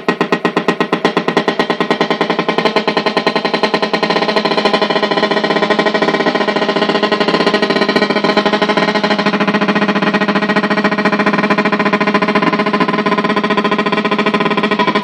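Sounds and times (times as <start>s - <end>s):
guitar amp pulsing buzz: 0.0s - 15.0s.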